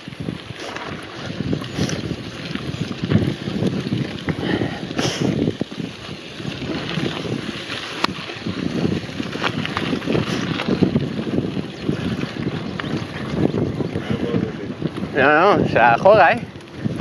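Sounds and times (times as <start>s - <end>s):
bike clicks and rattles: 0.0s - 17.0s
bike rolling over gravel: 0.0s - 17.0s
wind buffeting microphone: 0.0s - 17.0s.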